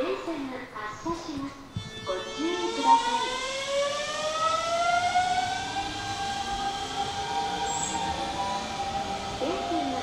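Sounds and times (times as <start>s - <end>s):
electric train motors whining: 1.9s - 10.0s.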